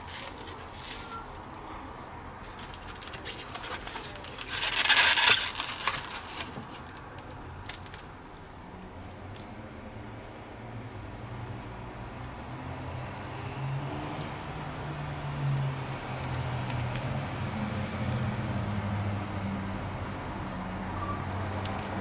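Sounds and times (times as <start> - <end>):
low engine hum of traffic: 0.0 - 22.0.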